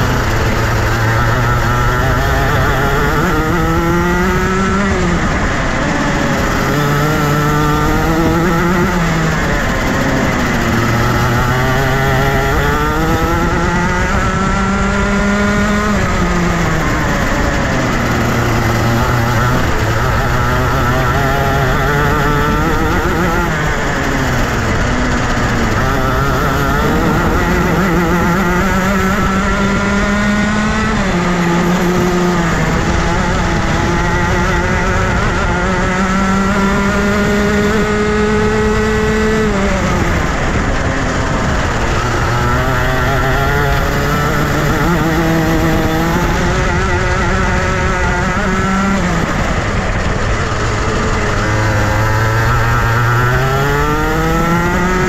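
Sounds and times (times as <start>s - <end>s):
kart engine accelerating: 0.0s - 55.0s.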